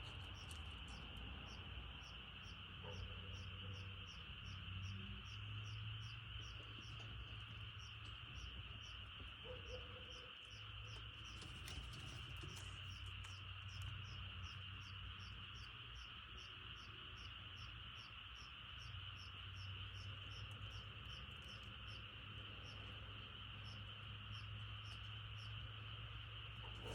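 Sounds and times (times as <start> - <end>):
frogs trilling: 0.0 - 26.9
sharp frog chirps: 0.0 - 26.9.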